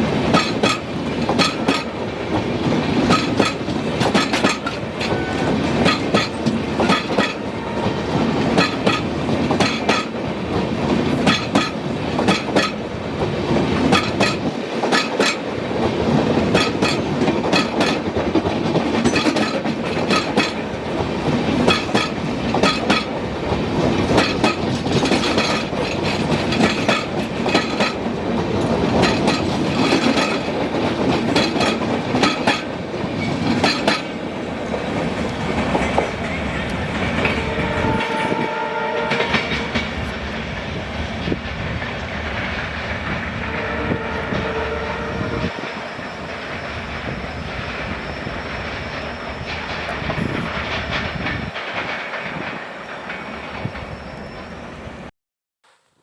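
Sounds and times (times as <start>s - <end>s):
train wheels clattering over rail joints: 0.0s - 54.7s
train rolling rumble: 0.0s - 55.1s.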